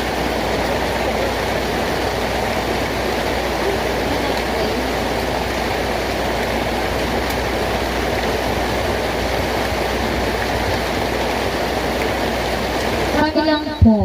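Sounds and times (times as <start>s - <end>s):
rush of falling water: 0.0s - 14.0s.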